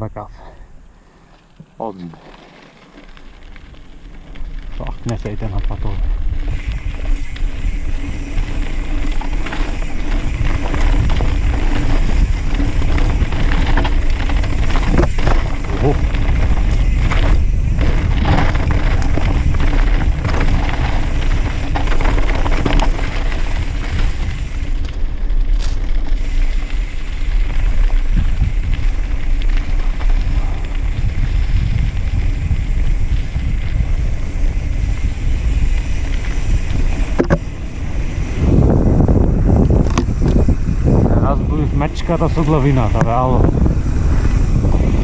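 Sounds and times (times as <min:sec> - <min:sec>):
tyres rolling over dirt: 0:01.2 - 0:45.0
wind rush on microphone: 0:03.4 - 0:45.0.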